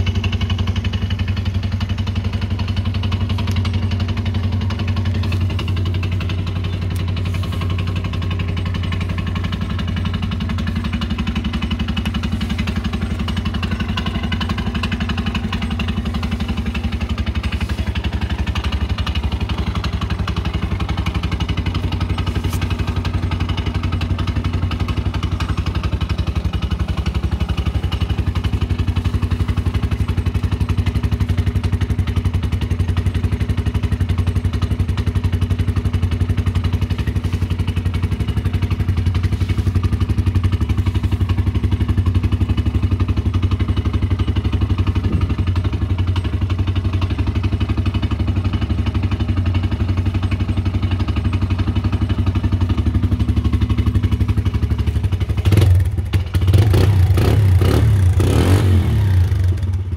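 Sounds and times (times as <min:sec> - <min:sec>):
quad engine idling: 0:00.0 - 0:59.9.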